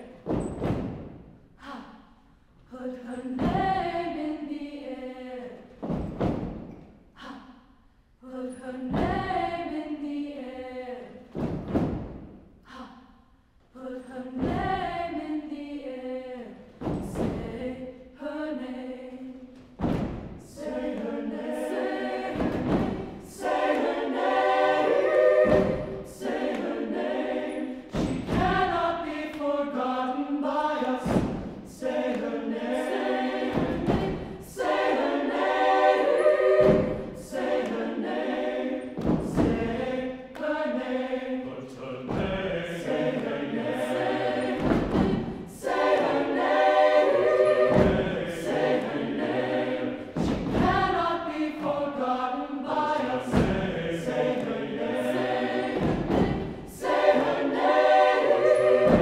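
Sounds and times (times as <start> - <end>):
mixed choir singing in harmony: 2.6 - 7.6, 8.2 - 13.0, 13.7 - 59.0.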